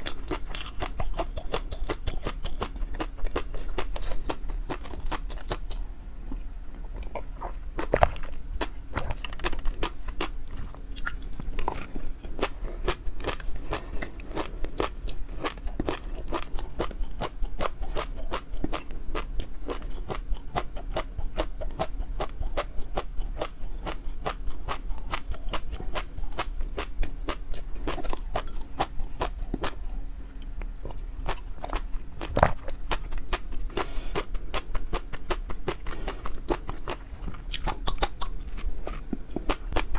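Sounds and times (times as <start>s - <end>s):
person chewing food: 0.0s - 6.4s, 7.0s - 39.9s.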